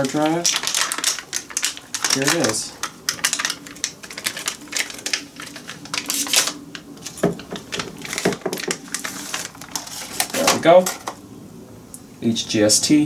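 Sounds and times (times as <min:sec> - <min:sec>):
foil bag crinkling and crackling: 0:00.0 - 0:11.2.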